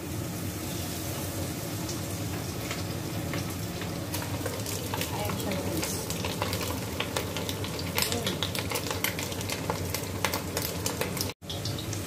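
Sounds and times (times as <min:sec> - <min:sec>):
pork chop sizzling in hot oil: 0:00.0 - 0:12.0.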